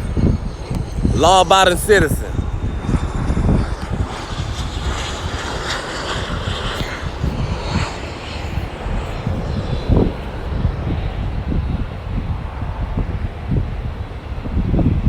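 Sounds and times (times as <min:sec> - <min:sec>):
road traffic rumble: 0:00.0 - 0:14.9
wind buffeting microphone: 0:00.0 - 0:15.0.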